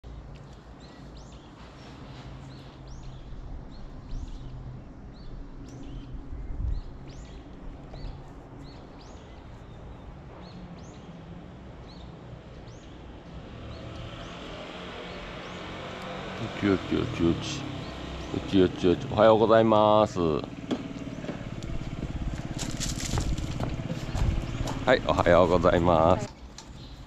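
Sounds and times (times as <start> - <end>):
small birds chirping: 0.1 - 27.0.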